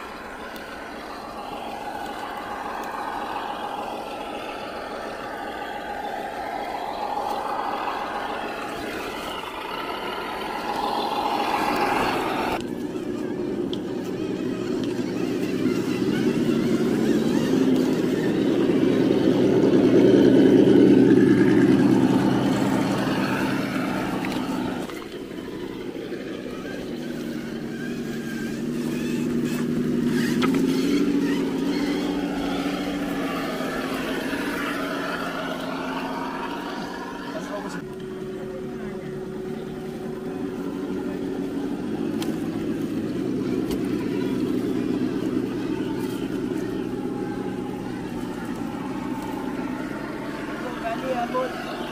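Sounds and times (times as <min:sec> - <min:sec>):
electric motor and gears whining: 0:00.0 - 0:51.9.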